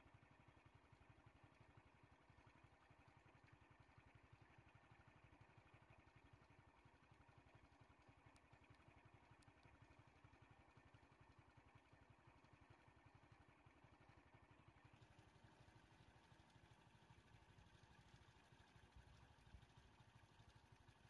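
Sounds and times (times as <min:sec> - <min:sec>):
faint engine idling: 0:00.0 - 0:21.0.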